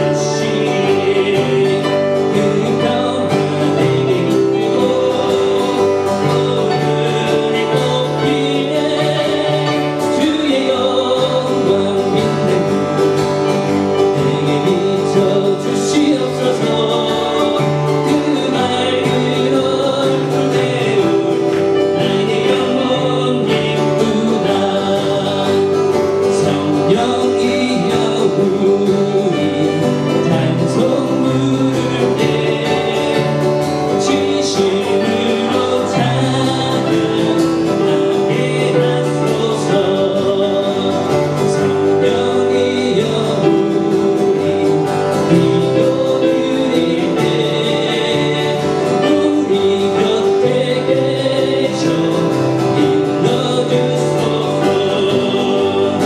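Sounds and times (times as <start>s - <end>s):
acoustic guitar: 0.0s - 56.0s
man singing: 0.0s - 56.0s.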